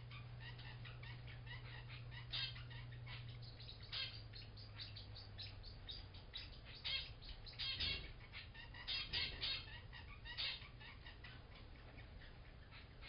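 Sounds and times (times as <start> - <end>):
finches beeping calls: 0.0 - 13.0
low steady hum: 0.0 - 13.0
parrotlets squeaking rapidly: 0.0 - 13.0.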